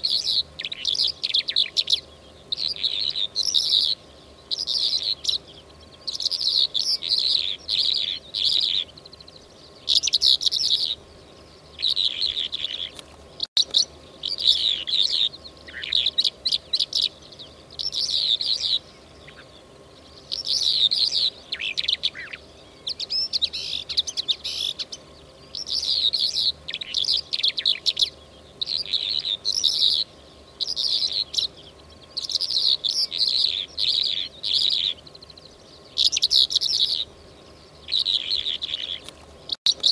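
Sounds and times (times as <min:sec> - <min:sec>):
lark song twittering: 0:00.0 - 0:39.9.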